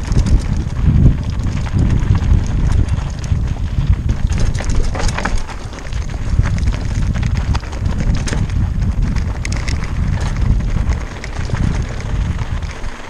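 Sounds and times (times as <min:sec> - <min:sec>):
bike rattling: 0:00.0 - 0:13.0
tyres clicking over stones: 0:00.0 - 0:13.0
wind buffeting microphone: 0:00.0 - 0:13.0.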